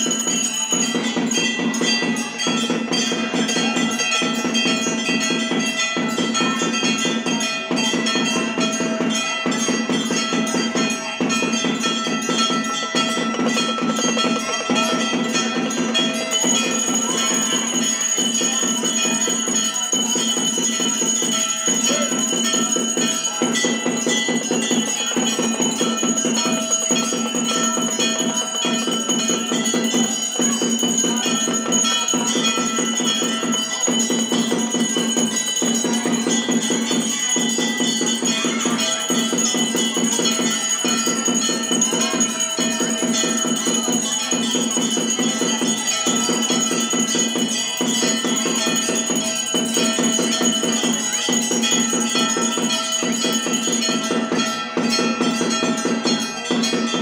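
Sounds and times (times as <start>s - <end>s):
temple bells clanging: 0.0s - 57.0s.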